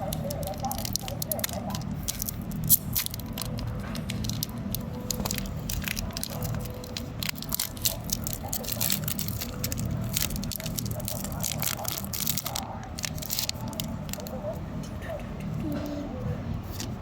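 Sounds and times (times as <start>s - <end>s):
foil pack crinkling and tearing: 0.0s - 14.4s
steady low hum: 0.0s - 17.0s.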